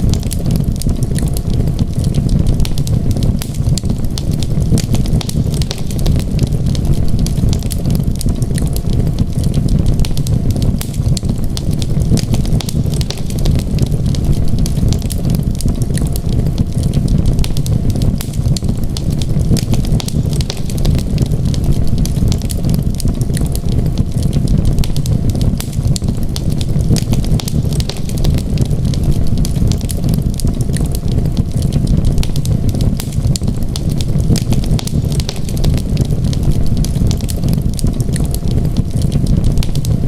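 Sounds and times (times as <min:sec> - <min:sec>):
low rumble: 0:00.0 - 0:40.0
wood fire crackling: 0:00.0 - 0:40.0.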